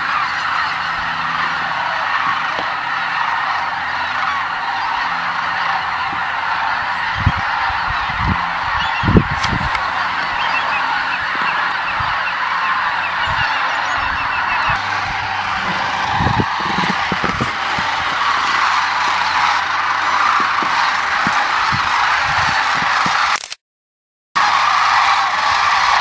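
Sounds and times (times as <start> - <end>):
cranes and geese calling: 0.0 - 23.3.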